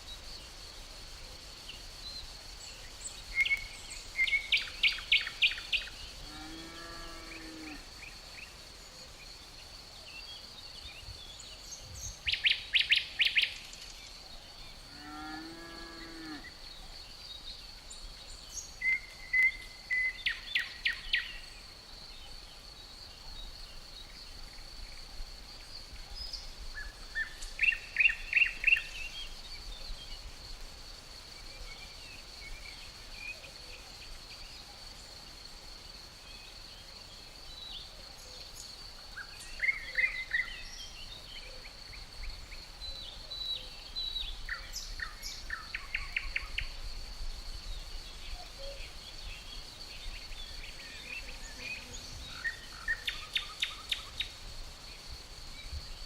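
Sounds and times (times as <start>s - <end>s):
high drone of insects: 0.0s - 56.0s.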